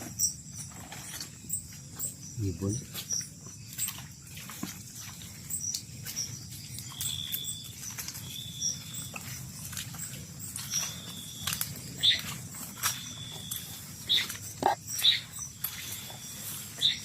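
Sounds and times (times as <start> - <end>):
animal chirps and clicks: 0.2 - 4.6, 5.2 - 17.0.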